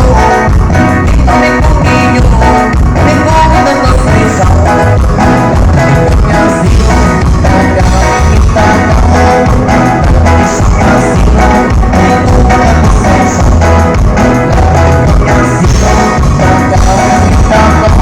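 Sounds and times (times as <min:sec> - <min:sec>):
live band playing amplified music: 0:00.0 - 0:18.0.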